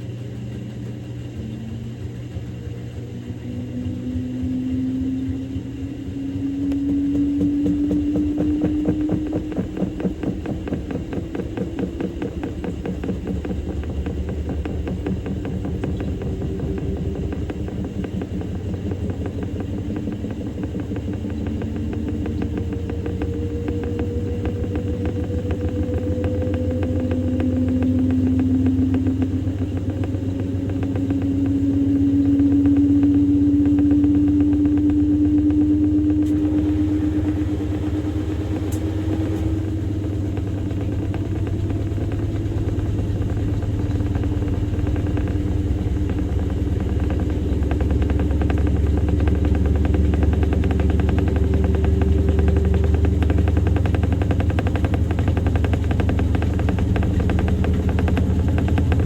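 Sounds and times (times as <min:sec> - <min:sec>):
motor whine rising in pitch: 0:00.0 - 0:59.0
washing machine drum rumbling: 0:00.0 - 0:59.0.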